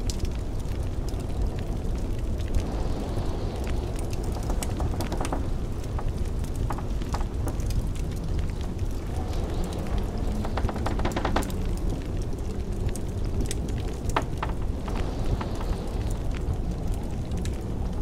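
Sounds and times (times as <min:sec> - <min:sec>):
blizzard wind rumble: 0:00.0 - 0:18.0
wood fire crackling: 0:00.0 - 0:18.0.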